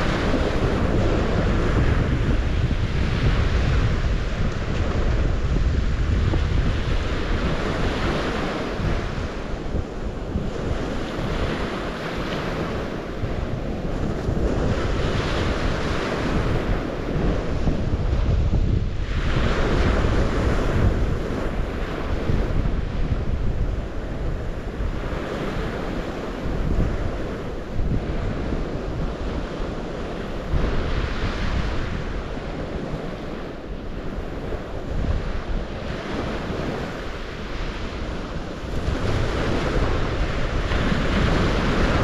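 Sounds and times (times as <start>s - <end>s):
waves washing in and back: 0.0s - 42.0s
wind rumbling on microphone: 0.0s - 42.0s.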